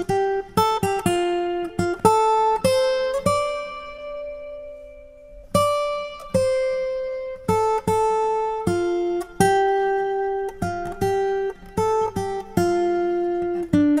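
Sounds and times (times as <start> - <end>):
acoustic guitar plucked notes: 0.0 - 14.0.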